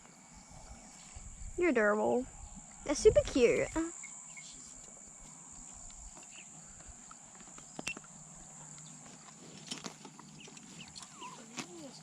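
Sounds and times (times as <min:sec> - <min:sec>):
cricket drone: 0:00.0 - 0:10.9.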